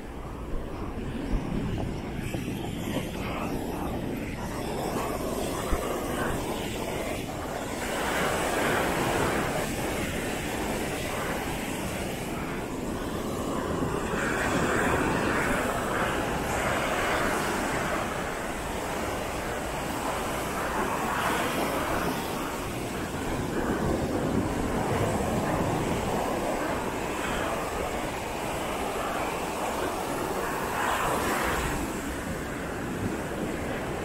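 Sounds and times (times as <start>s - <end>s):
sea waves breaking on shore: 0.1s - 34.0s.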